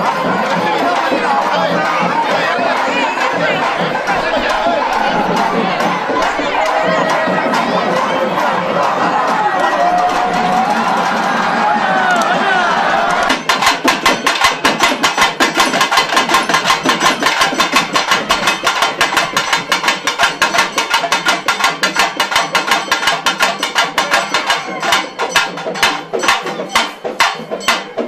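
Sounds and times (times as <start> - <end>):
drums beaten in fast rhythm: 0.0 - 28.0.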